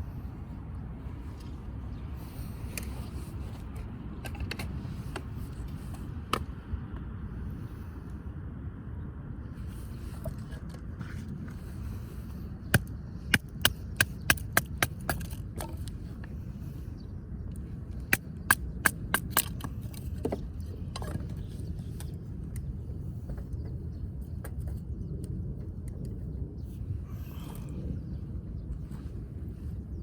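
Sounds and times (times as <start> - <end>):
low rumbling noise: 0.0 - 30.0.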